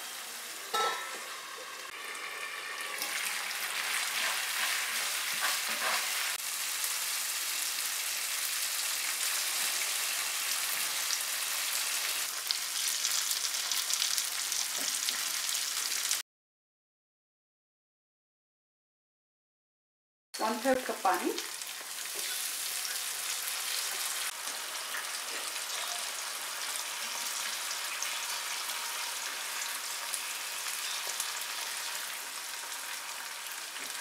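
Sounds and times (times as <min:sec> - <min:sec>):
gravy sizzling in a frying pan: 0:00.0 - 0:16.2, 0:20.4 - 0:34.0.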